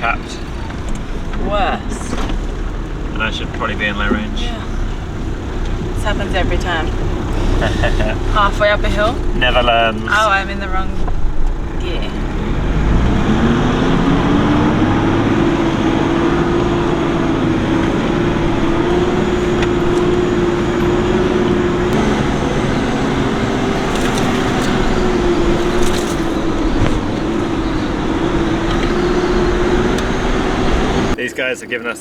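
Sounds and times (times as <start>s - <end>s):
light rattles: 0.0s - 15.0s, 17.6s - 31.2s
engine pulling under load: 0.0s - 31.2s.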